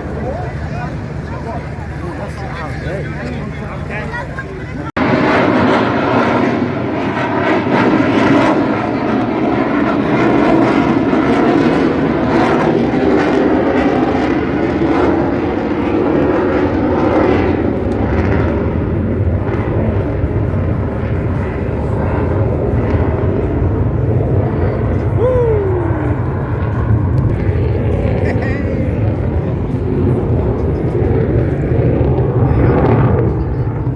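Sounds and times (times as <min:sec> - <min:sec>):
aircraft flying over: 0:00.0 - 0:33.9.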